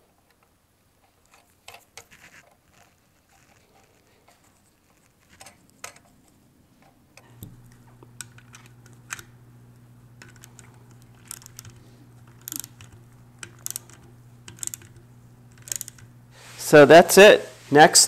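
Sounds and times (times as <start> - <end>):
steady low hum: 3.3 - 18.0.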